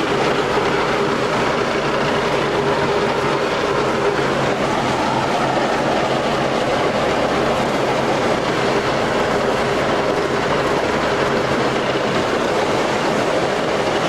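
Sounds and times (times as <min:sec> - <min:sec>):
road roller mechanical clatter: 0:00.0 - 0:14.0.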